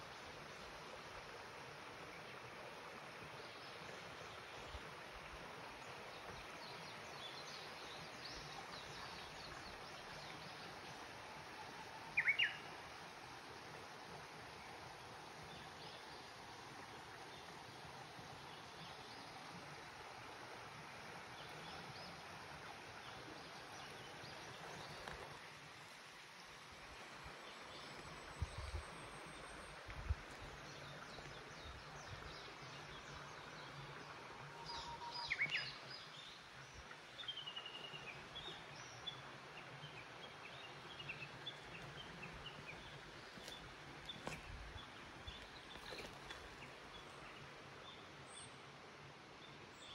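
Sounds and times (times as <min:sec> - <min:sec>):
faint outdoor hiss: 0:00.0 - 0:49.9.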